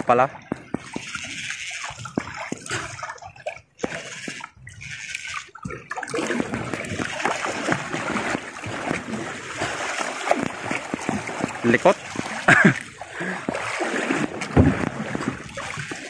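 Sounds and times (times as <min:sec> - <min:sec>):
waves splashing against boat hull: 0:00.0 - 0:16.0.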